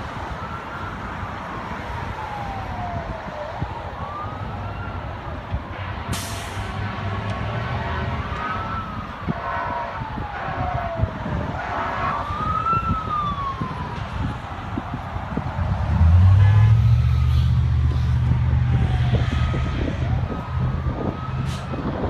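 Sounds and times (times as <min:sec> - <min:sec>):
emergency siren wailing: 0:00.0 - 0:22.0
heavy vehicle engine rumble: 0:00.0 - 0:22.0.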